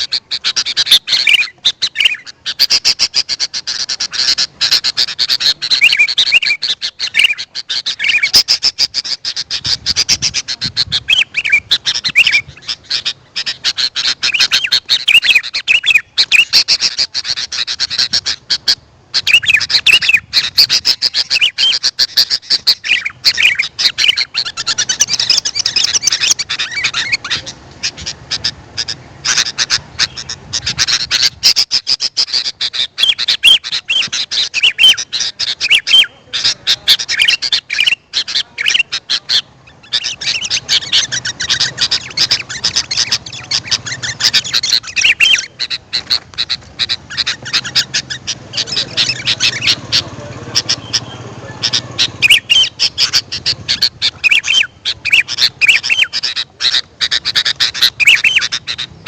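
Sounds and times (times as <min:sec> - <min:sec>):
bird chirping and whistling: 0:00.0 - 0:59.0.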